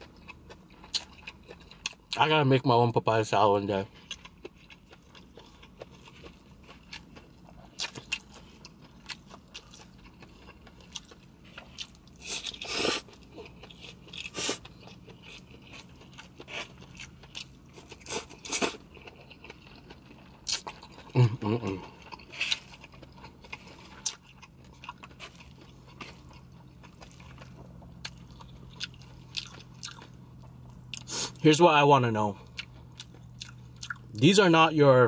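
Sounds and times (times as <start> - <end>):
person chewing noodles: 0.0 - 2.2, 3.8 - 31.4, 32.3 - 34.2.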